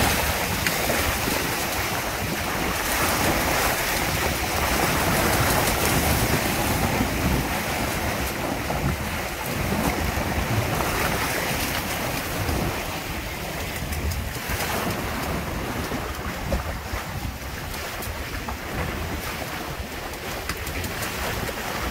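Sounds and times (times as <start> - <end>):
water rushing along hulls: 0.0 - 21.9
wind buffeting microphone: 0.0 - 21.9.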